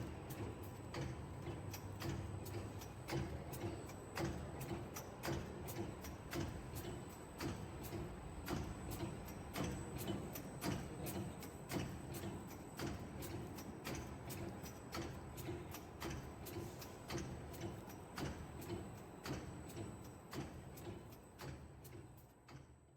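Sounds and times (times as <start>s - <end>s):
machine clicking rhythmically: 0.0s - 22.7s.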